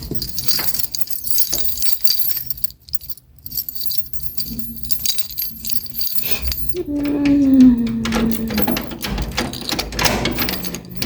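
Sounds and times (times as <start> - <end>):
keys jangling: 0.0 - 11.0.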